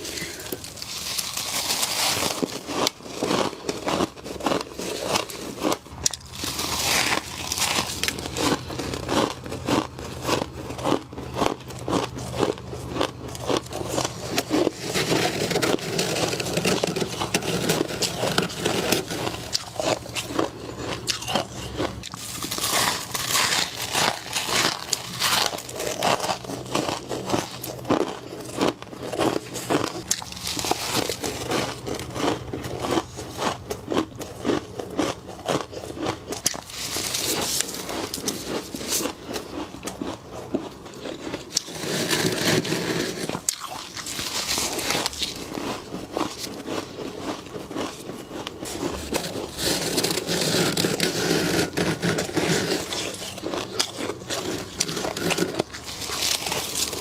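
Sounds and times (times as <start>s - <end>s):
frost crunching being chewed: 0.0s - 57.0s.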